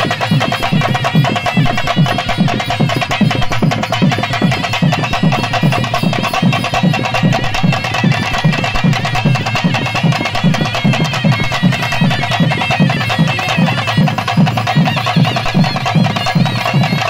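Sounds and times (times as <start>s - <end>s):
barrel drums beating: 0.0s - 17.0s
held tone: 0.0s - 17.0s.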